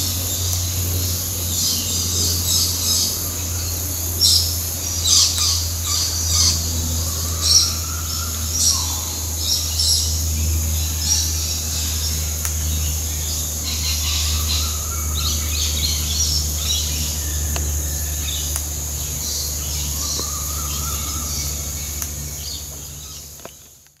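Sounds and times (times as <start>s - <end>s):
birds chirping: 0.0s - 23.8s
high insect drone: 0.0s - 23.8s
low hum: 0.0s - 23.8s.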